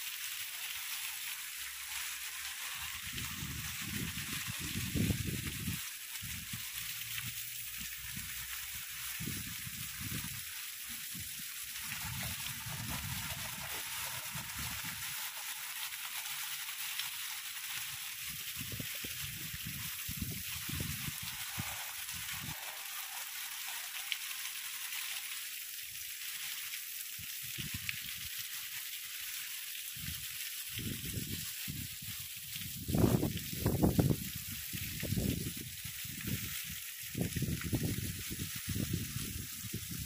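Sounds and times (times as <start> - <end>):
heavy rain hissing: 0.0 - 25.5, 30.8 - 40.0.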